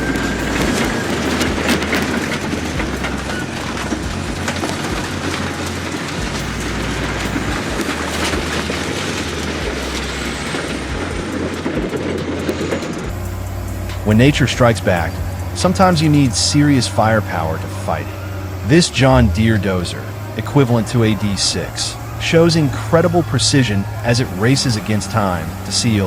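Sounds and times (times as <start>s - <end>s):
diesel engine rumbling: 0.0s - 26.0s
metal cracking: 0.0s - 26.0s
steel tracks clanking: 0.0s - 26.0s.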